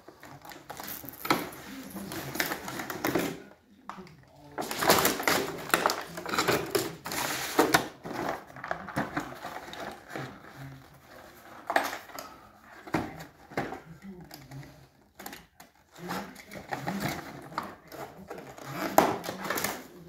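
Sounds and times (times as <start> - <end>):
cardboard and plastic rustling: 0.0 - 20.0.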